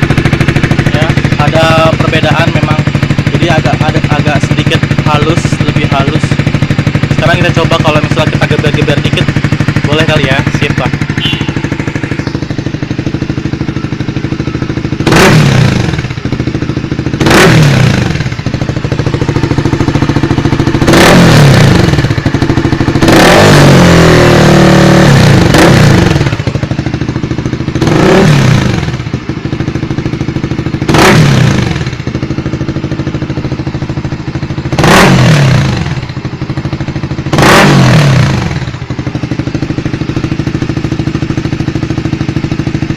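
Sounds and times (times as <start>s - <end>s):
motorcycle idling and revving: 0.0s - 42.9s.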